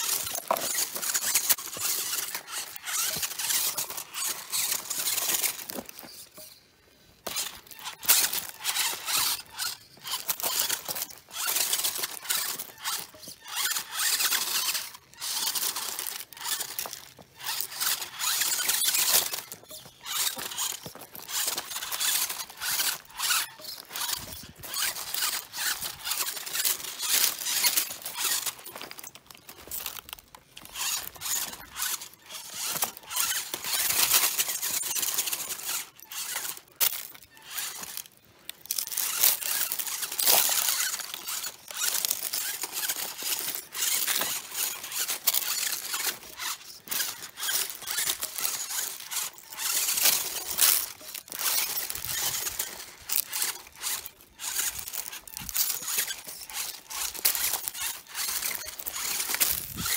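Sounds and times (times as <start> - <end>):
tyres scraping on stone: 0.0 - 59.9.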